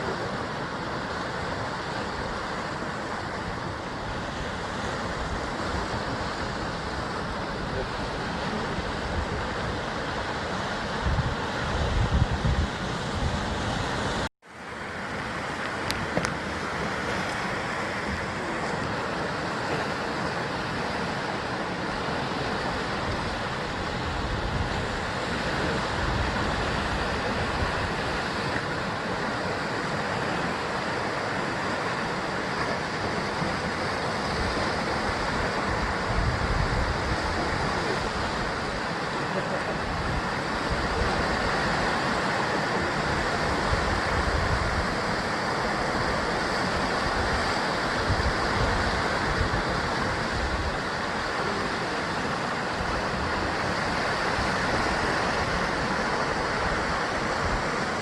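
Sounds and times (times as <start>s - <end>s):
wind rumble on microphone: 0.0s - 14.3s, 15.1s - 58.0s
waves breaking against cliff: 0.0s - 58.0s.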